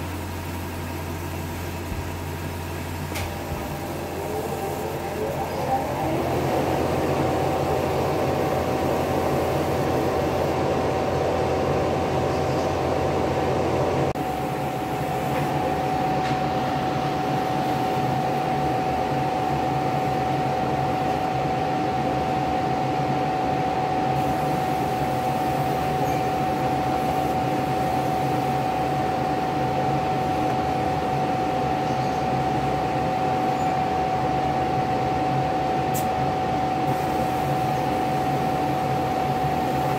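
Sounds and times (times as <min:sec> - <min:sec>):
machine humming with high whine: 0:00.0 - 0:39.9
lower hum: 0:01.0 - 0:39.9.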